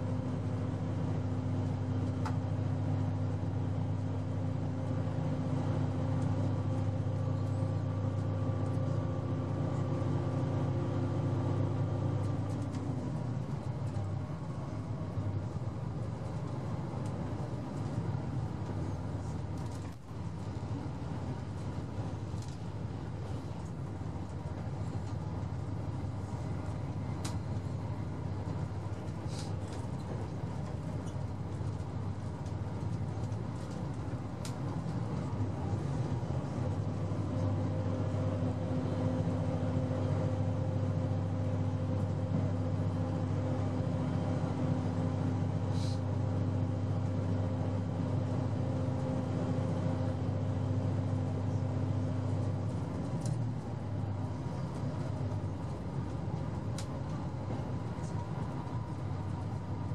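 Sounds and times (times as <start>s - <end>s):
low diesel engine drone: 0.0s - 59.9s
train wheels rumbling on rail: 0.0s - 59.9s.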